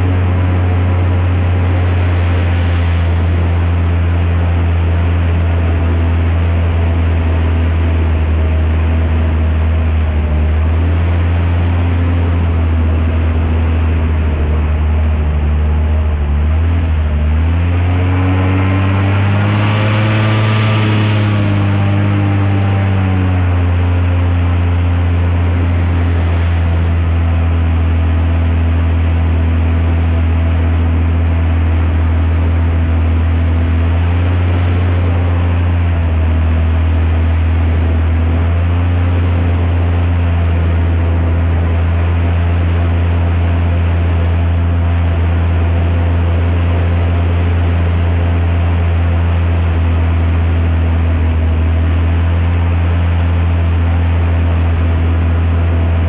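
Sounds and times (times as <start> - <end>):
rushing noise: 0.0 - 49.5
airboat engine and propeller drone: 0.0 - 56.0.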